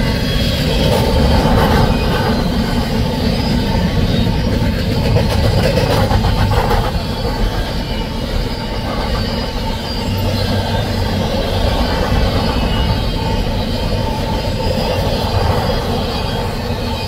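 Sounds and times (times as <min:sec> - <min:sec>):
freight train wheels rolling on rails: 0:00.0 - 0:17.0.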